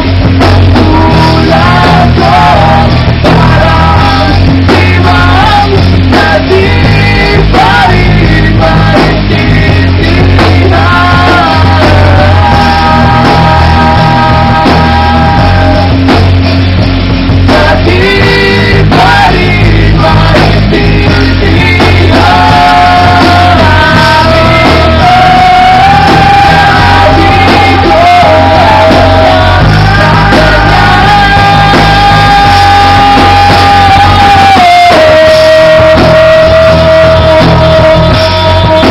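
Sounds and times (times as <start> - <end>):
male singer singing: 0.0 - 16.2, 17.4 - 38.9
rock band playing: 0.0 - 38.9.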